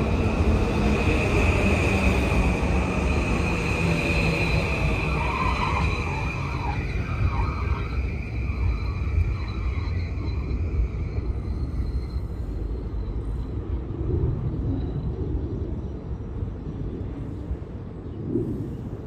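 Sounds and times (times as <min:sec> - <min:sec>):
high train whine: 0:00.0 - 0:19.0
train wheels rumbling on track: 0:00.0 - 0:19.0.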